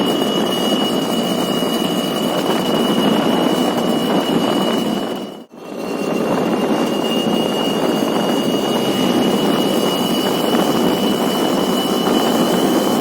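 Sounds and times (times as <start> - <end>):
two-stroke motorcycle engine running: 0.0 - 5.4, 6.3 - 13.0
thin steady high tone: 0.0 - 13.0.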